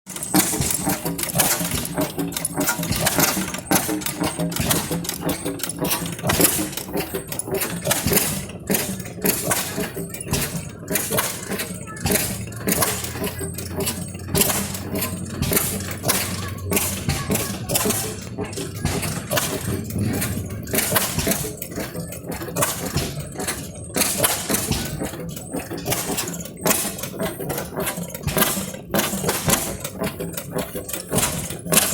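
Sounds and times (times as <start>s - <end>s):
old engines humming: 0.1s - 31.9s
sharp knocks and clanks: 0.1s - 31.9s
faint background voices: 0.6s - 31.9s.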